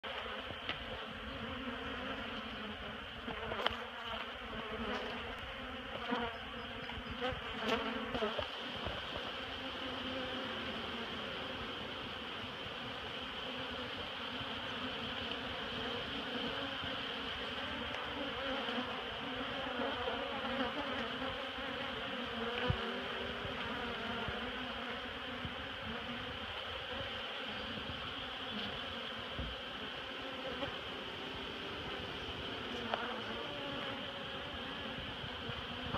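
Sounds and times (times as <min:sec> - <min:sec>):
honeybees buzzing: 0:00.0 - 0:35.9.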